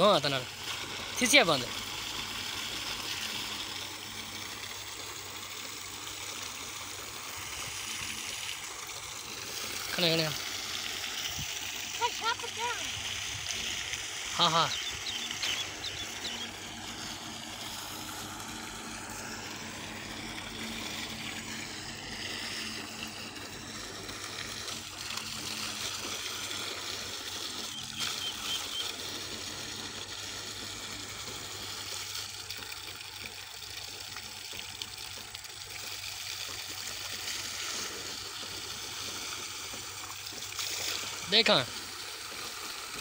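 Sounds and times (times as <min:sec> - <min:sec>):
low pump hum: 0:00.0 - 0:43.0
water gushing from pipe: 0:00.0 - 0:43.0.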